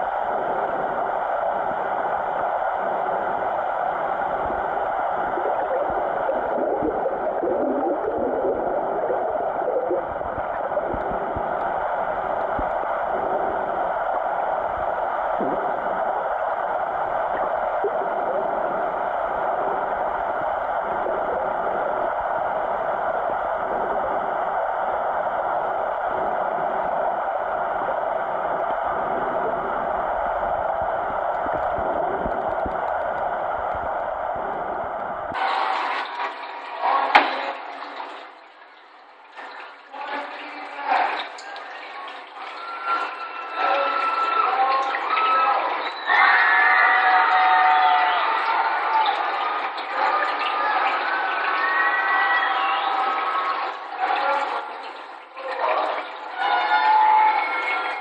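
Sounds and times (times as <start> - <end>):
muffled underwater water rush: 0.0 - 58.0.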